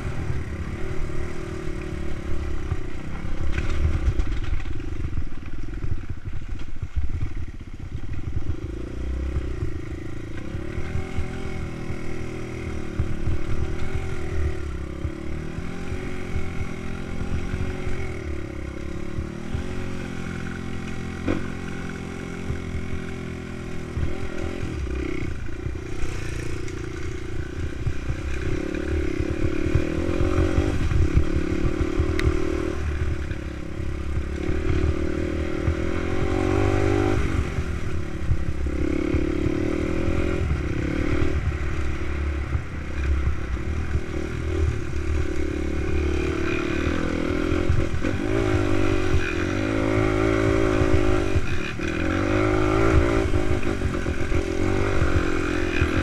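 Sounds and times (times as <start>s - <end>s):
dirt bike engine revving: 7.1s - 56.0s.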